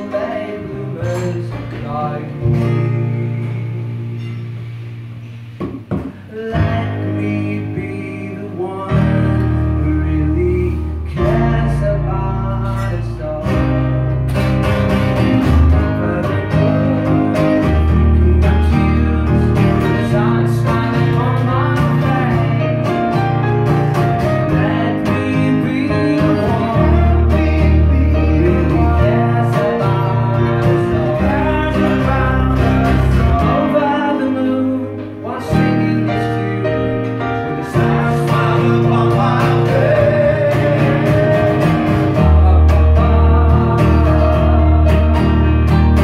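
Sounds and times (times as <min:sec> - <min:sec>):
held bass notes: 0:00.0 - 0:46.0
keyboard playing chords: 0:00.0 - 0:46.0
strummed acoustic guitar: 0:00.0 - 0:46.0.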